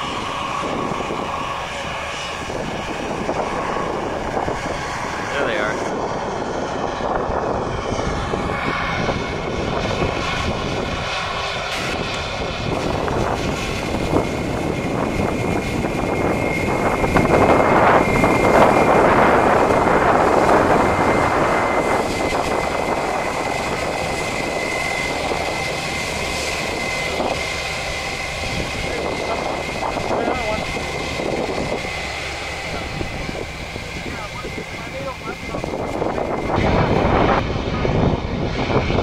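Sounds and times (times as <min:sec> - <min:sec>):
airliner engines with whine: 0:00.0 - 0:39.0.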